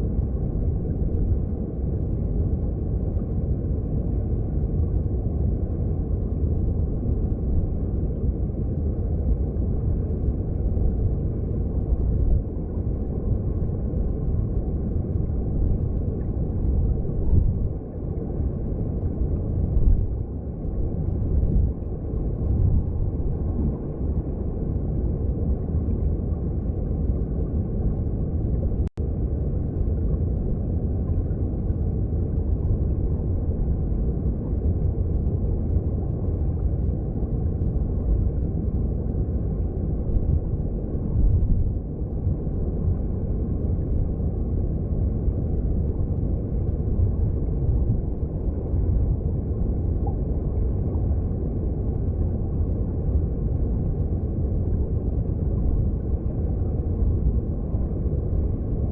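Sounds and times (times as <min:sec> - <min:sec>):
underwater rushing stream: 0:00.0 - 0:58.9.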